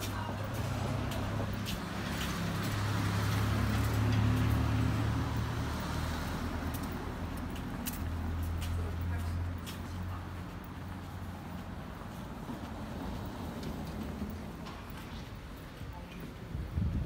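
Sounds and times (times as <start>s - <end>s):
vehicle engine hum: 0.0s - 15.8s
city street background: 0.0s - 17.0s.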